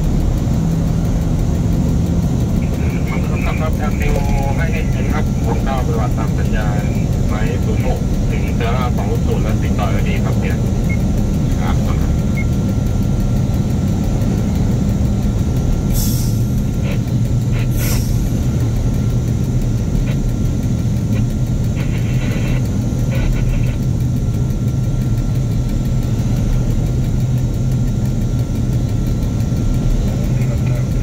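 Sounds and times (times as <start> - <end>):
diesel locomotive engine hum: 0.0 - 31.0.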